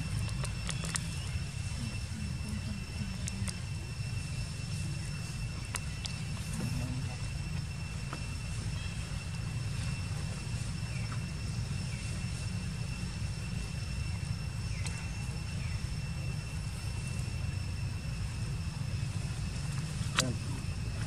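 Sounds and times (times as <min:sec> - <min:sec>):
low background rumble: 0:00.0 - 0:21.0
thin high-pitched whine: 0:00.0 - 0:21.0.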